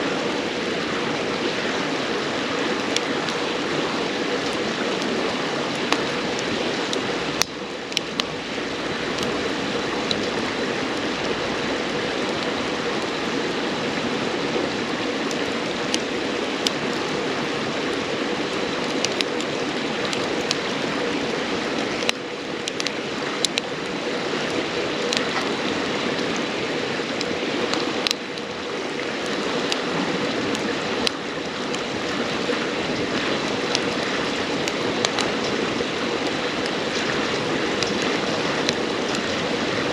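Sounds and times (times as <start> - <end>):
campfire popping and crackling: 0.0 - 39.9
river rushing: 0.0 - 39.9.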